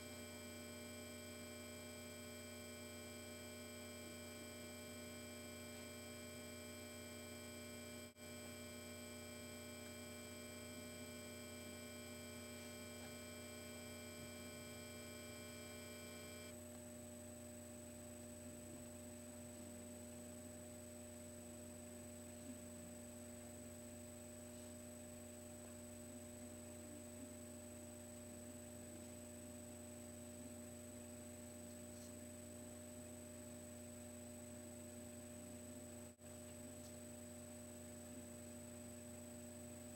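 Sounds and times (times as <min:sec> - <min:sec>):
faint electrical hum: 0:00.0 - 0:39.9.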